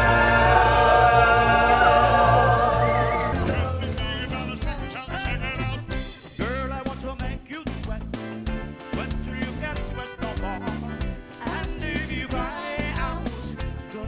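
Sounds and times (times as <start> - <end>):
person singing: 0.0 - 7.9, 9.0 - 14.0
live band music: 0.0 - 14.0.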